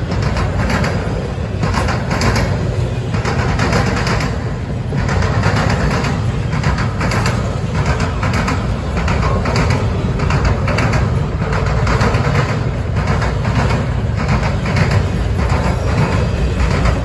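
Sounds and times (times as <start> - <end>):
clatter over the track: 0.0 - 17.0
freight train wheels rumbling: 0.0 - 17.0.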